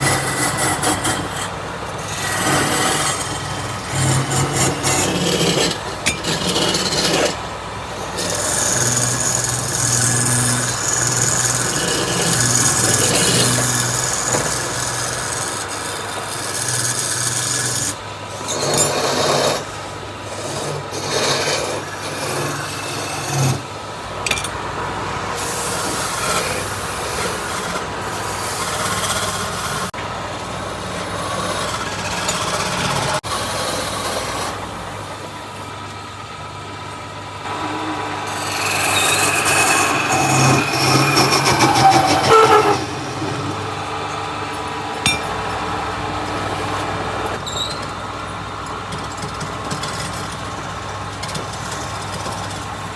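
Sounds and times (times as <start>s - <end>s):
tools scraping and rasping wood: 0.0s - 24.6s, 25.2s - 35.4s, 37.4s - 43.9s, 48.9s - 52.9s.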